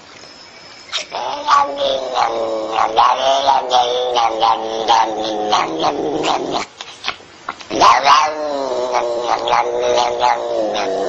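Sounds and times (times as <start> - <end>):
cat yowling: 0.9 - 6.7, 7.8 - 11.0.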